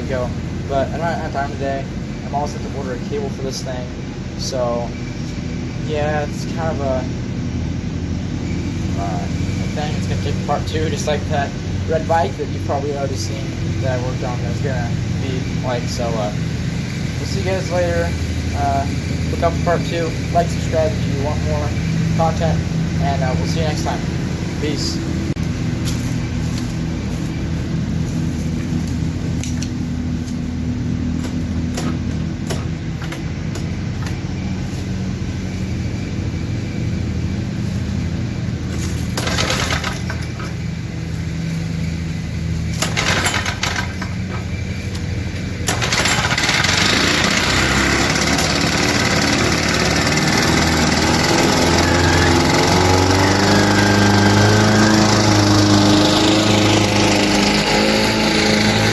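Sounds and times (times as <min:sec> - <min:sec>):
lawn mower engine running: 0:00.0 - 0:58.9.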